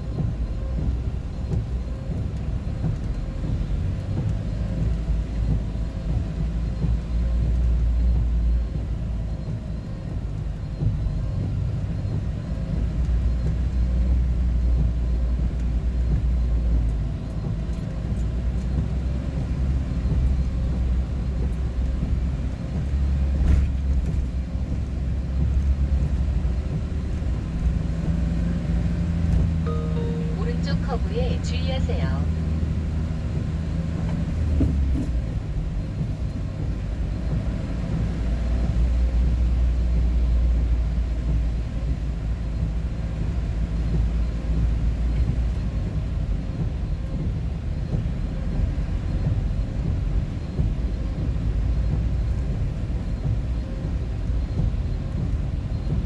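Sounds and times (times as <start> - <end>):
vehicle engine and tyres rumbling: 0.0 - 56.0.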